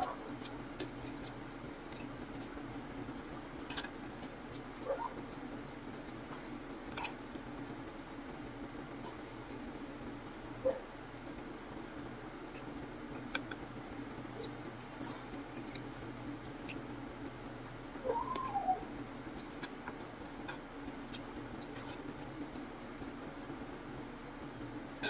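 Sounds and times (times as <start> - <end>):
soft chewing: 0.0 - 25.0
steady low hum: 0.0 - 25.0.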